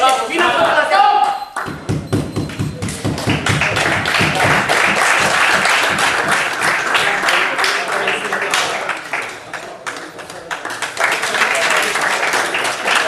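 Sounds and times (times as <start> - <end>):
spectators applauding: 2.5 - 13.0.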